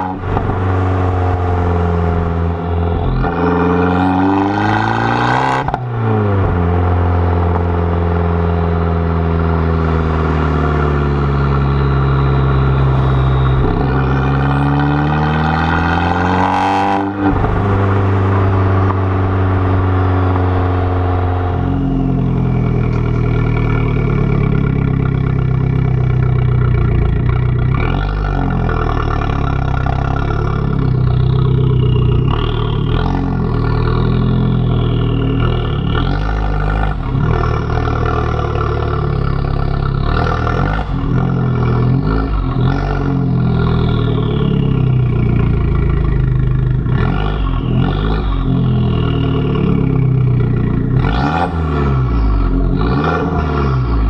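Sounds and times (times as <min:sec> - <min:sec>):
car exhaust while driving: 0:00.0 - 0:54.0.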